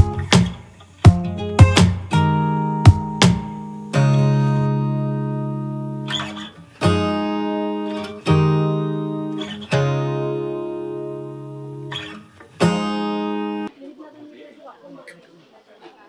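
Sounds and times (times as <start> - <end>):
acoustic guitar strumming chords: 0.0 - 13.7.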